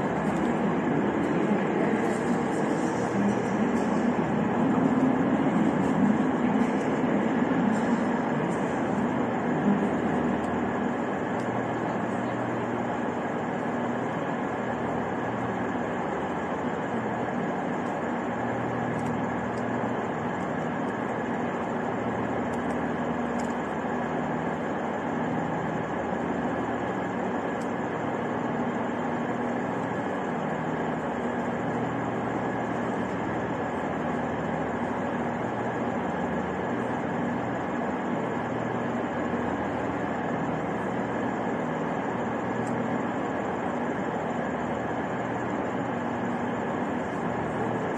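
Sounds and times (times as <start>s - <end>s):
rumble and hum of trains: 0.0s - 47.9s.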